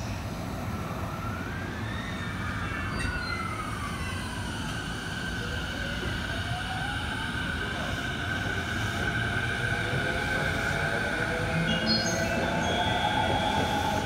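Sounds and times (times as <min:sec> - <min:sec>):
electric train inverter whine: 0:00.0 - 0:14.0
low train rumble: 0:00.0 - 0:14.0.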